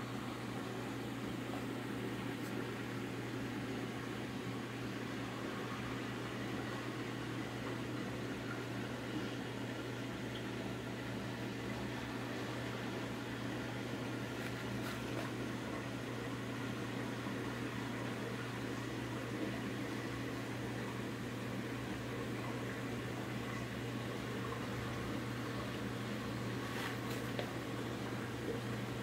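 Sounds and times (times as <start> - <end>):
aquarium pump hum: 0.0 - 29.0.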